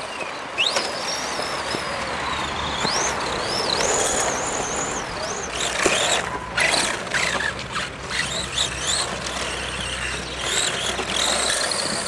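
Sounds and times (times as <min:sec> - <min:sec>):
toy car motor whining: 0:00.0 - 0:12.0.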